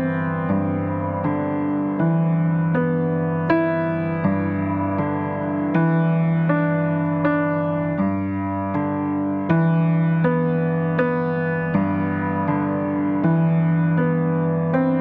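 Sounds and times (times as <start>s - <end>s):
piano sustained chords: 0.0s - 15.0s.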